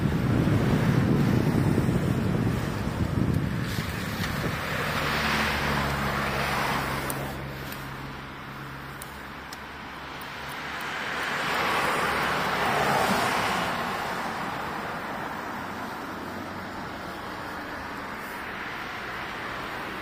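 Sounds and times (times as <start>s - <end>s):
car passing by: 0.0s - 20.0s.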